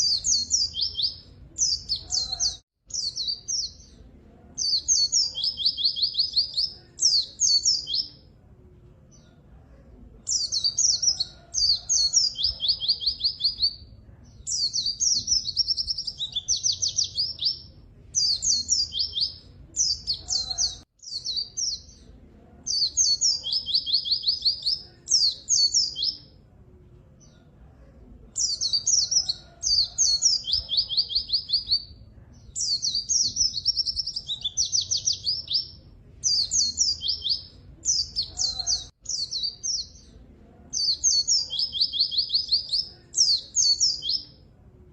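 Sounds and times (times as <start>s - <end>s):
bird twittering and trilling: 0.0s - 8.3s, 10.2s - 26.4s, 28.3s - 44.4s.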